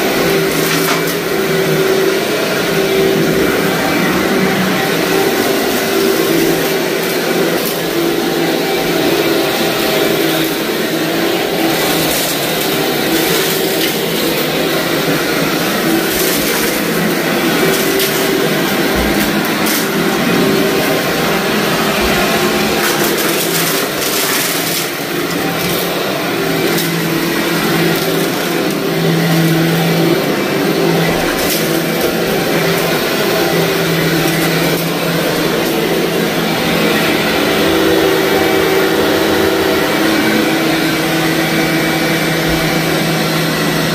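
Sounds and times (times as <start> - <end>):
grit crunching in vacuum: 0.0 - 43.9
vacuum cleaner motor humming: 0.0 - 43.9.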